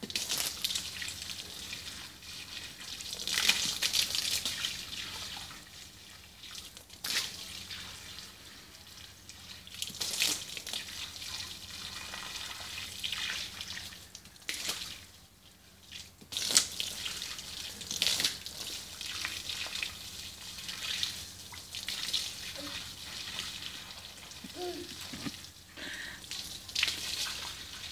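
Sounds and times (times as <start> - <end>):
hose water splashing on concrete: 0.0 - 27.9.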